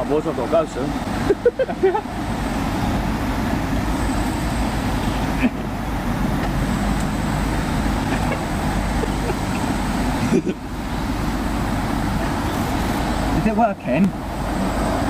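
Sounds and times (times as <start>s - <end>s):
voices: 0.0s - 2.2s, 2.9s - 14.2s
road traffic hum: 0.0s - 15.0s.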